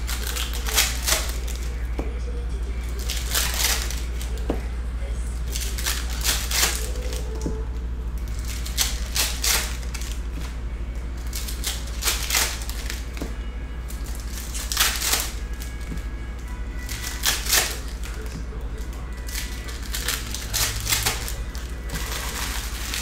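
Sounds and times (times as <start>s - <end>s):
wrappers tearing and crinkling: 0.0s - 1.9s, 2.8s - 4.5s, 5.4s - 7.4s, 8.2s - 10.6s, 11.2s - 13.2s, 13.8s - 23.0s
steady low hum: 0.0s - 23.0s.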